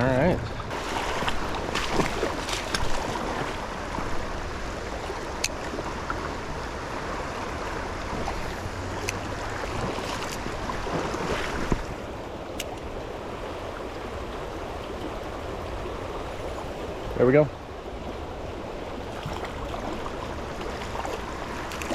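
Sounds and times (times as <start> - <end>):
river water flowing over stones: 0.0 - 21.9.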